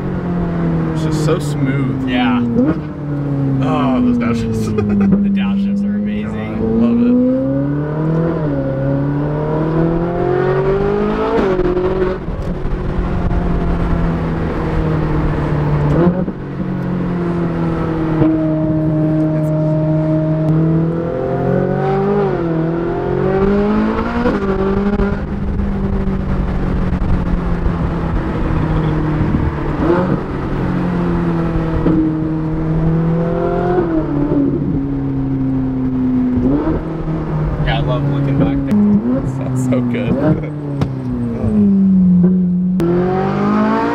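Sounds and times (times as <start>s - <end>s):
car engine revving in cabin: 0.0s - 43.9s.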